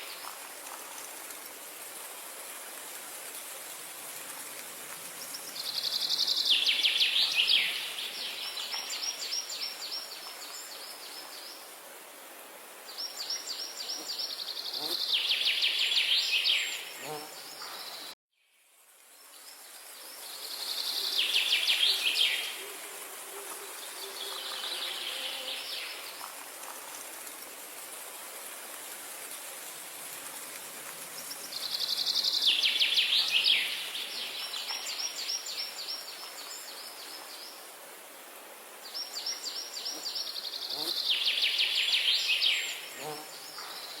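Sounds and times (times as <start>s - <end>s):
outdoor ambience hiss: 0.0s - 44.0s.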